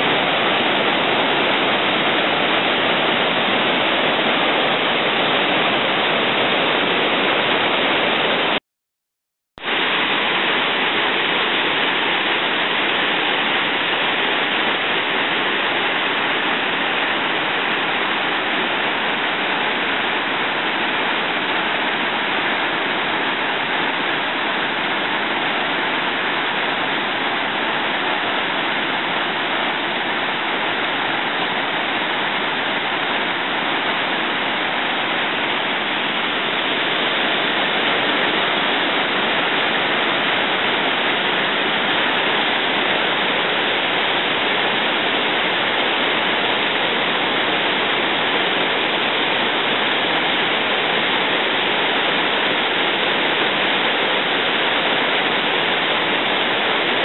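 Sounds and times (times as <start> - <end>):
waterfall rushing: 0.0 - 8.6, 9.6 - 57.0.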